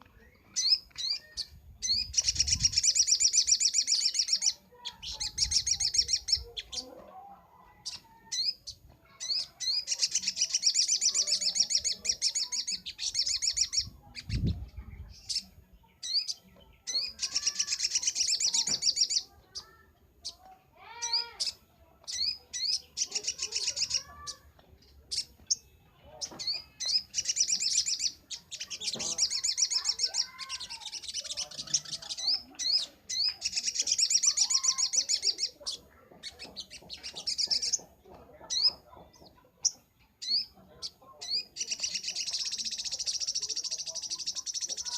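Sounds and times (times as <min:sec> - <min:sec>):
bird chattering trills: 0:00.3 - 0:06.9, 0:07.7 - 0:44.9.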